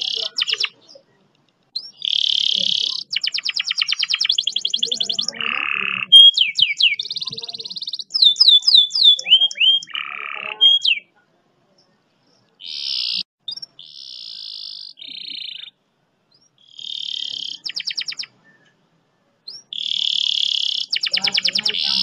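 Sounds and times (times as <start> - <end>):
canary singing with rapid trills: 0.0 - 22.0.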